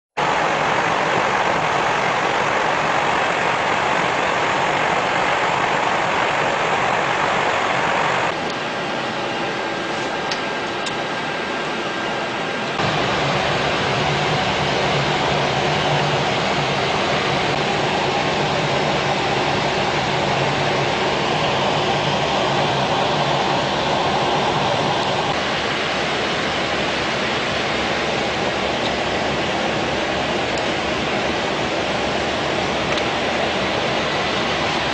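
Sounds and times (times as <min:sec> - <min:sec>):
steady rushing noise: 0:00.2 - 0:34.9.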